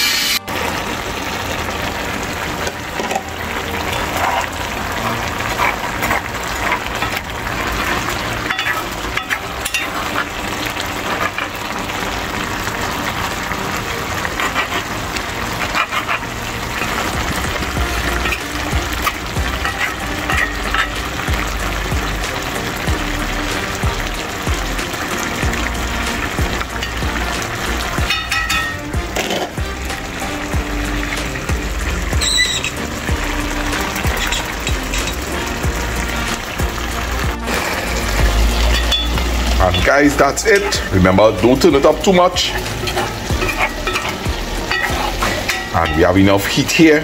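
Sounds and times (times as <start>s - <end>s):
stew sizzling and bubbling: 0.0s - 47.0s.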